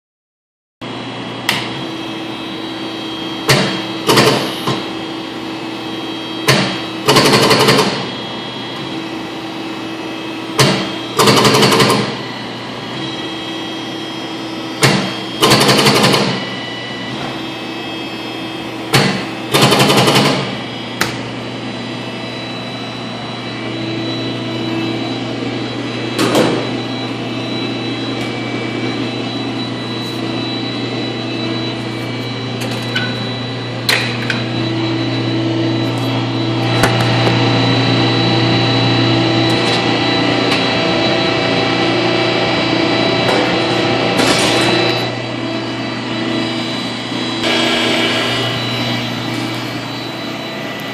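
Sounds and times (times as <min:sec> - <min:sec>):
machine humming: 0:00.8 - 0:50.9.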